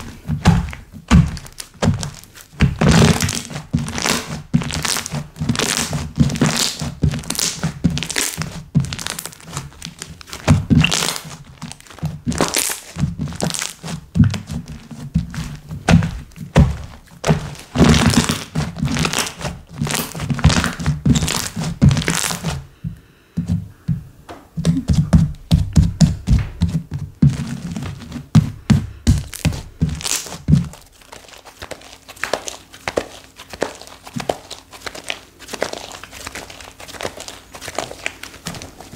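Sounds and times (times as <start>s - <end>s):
slime squished by hand: 0.0s - 22.6s, 27.6s - 38.9s.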